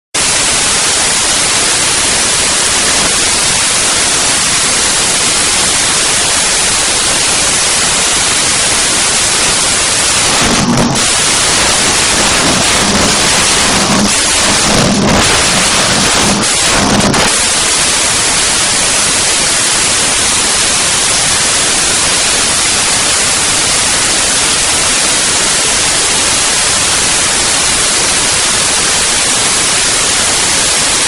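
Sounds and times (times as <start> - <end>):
hose spraying: 0.2 - 31.0.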